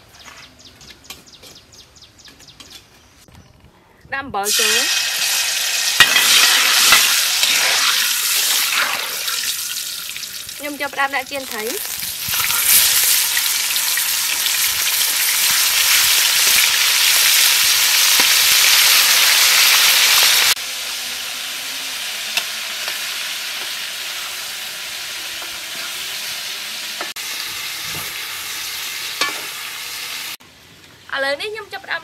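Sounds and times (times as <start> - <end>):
fish sizzling in hot oil: 4.5 - 30.4.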